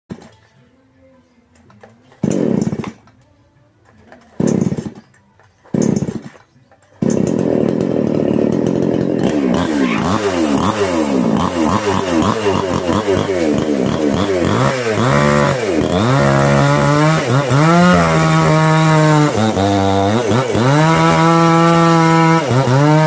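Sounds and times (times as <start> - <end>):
small petrol engine starting and revving: 2.1 - 3.0, 4.1 - 23.0.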